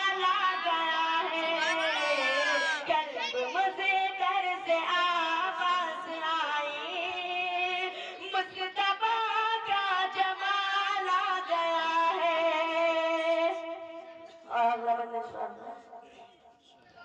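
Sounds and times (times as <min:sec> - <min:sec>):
boy singing into microphone: 0:00.0 - 0:15.4.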